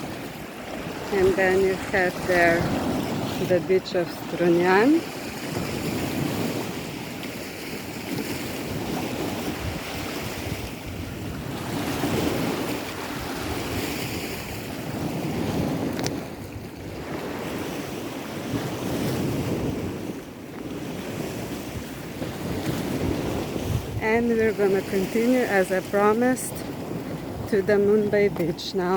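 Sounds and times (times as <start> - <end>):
sea surf: 0.0 - 28.9
wind gusting on microphone: 0.0 - 28.9.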